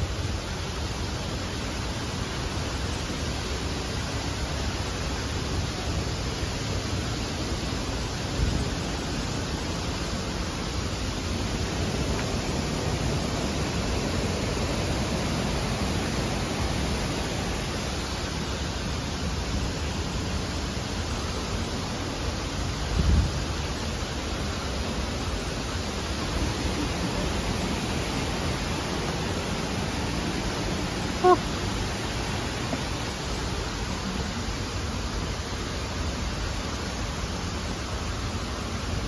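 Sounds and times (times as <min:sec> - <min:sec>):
falling water rushing: 0:00.0 - 0:39.0.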